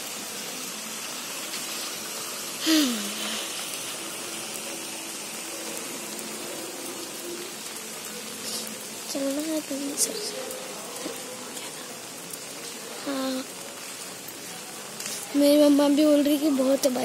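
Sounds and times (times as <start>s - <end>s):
heavy rain on wet pavement: 0.0s - 17.0s.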